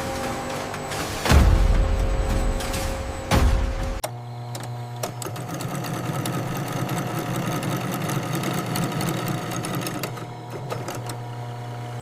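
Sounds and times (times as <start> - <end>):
factory machine humming: 0.0 - 12.0.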